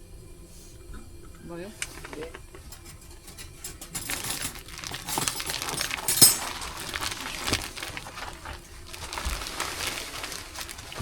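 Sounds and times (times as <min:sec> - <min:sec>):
rustling and crinkling: 0:01.8 - 0:11.0.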